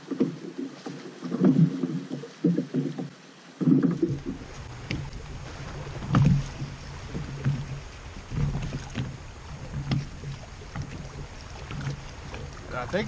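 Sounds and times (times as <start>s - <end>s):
water washing against boat: 0.0s - 13.0s
wind: 0.0s - 13.0s.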